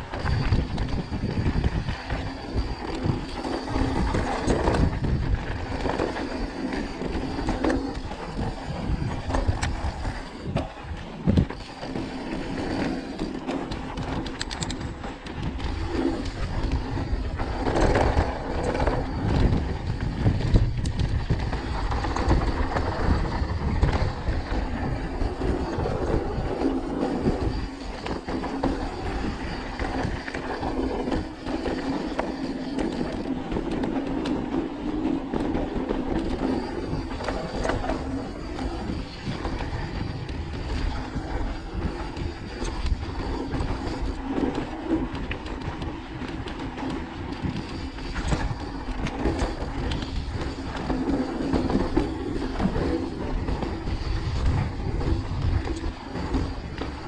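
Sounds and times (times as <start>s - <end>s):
bike rattles and clicks: 0.0s - 57.0s
bike tyres rumbling on gravel: 0.0s - 57.0s.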